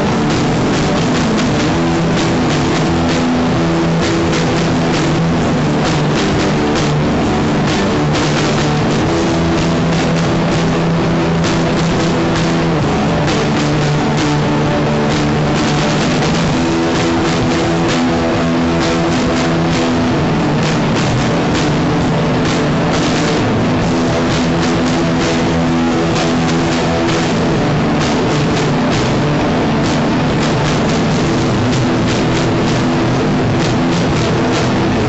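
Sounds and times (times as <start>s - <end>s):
distorted electric guitar: 0.0s - 35.0s
drum kit with cymbals: 0.0s - 35.0s.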